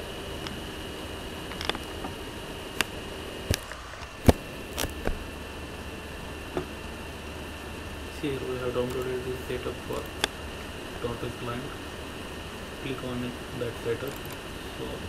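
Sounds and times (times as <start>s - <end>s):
room noise hum and hiss: 0.0s - 15.0s.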